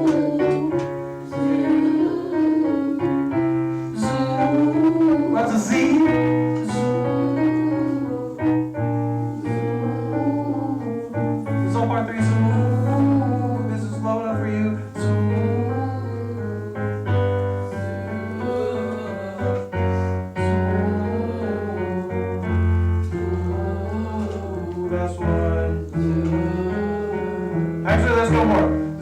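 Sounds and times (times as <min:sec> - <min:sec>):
choir singing warm-up: 0:00.0 - 0:29.0
sustained piano chords: 0:00.0 - 0:29.0.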